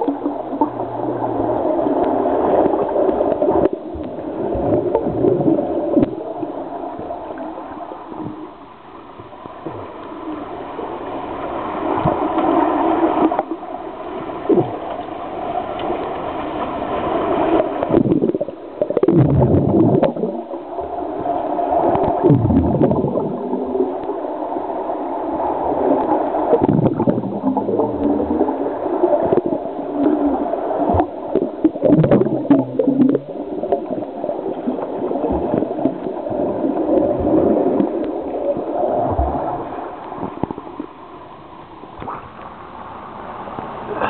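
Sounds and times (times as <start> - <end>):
muffled underwater churning water: 0.0 - 44.0.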